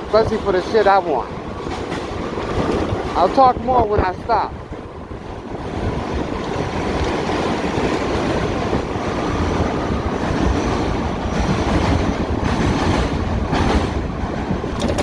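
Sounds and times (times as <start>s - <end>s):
wind rushing over microphone: 1.3s - 14.9s.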